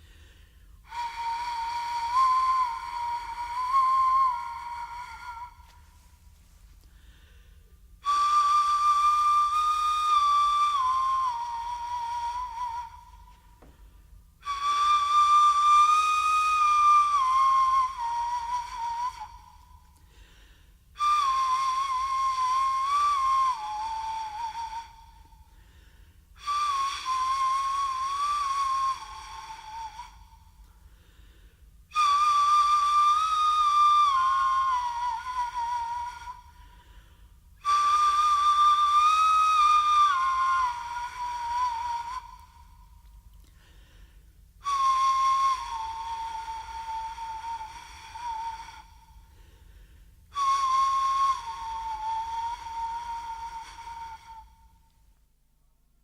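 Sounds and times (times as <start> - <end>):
breathy flute notes: 0.0 - 55.7.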